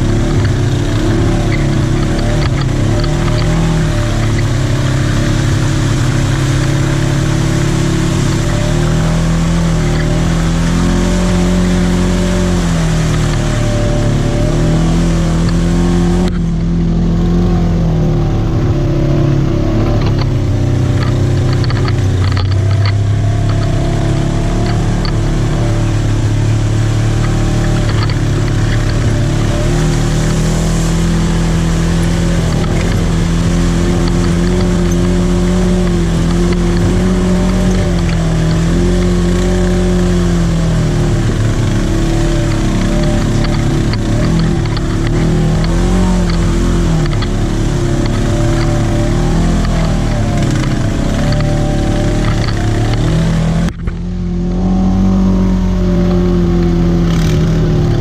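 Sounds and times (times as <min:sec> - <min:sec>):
engine revving while driving: 0:00.0 - 0:58.0.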